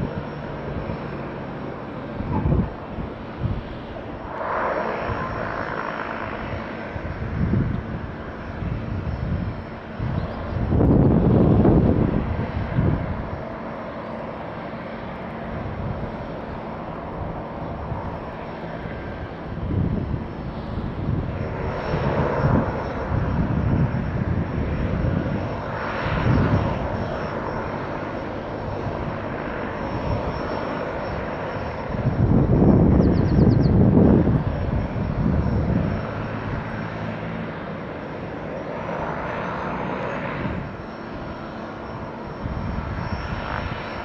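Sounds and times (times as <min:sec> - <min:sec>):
turboprop engines whining: 0:00.0 - 0:44.0.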